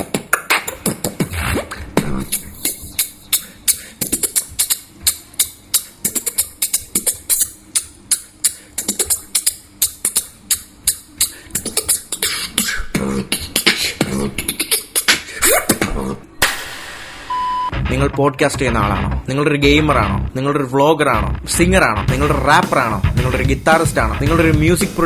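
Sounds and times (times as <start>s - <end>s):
beatboxing mouth percussion: 0.0s - 16.3s, 21.2s - 25.0s
vocal bass tones: 0.8s - 16.4s, 17.7s - 25.0s.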